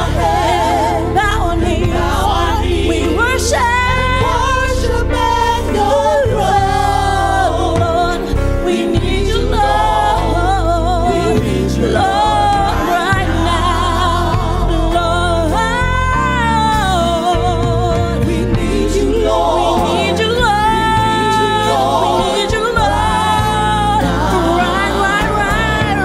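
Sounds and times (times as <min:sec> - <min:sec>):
gospel lead voice singing: 0:00.0 - 0:26.0
sustained backing chords: 0:00.0 - 0:26.0.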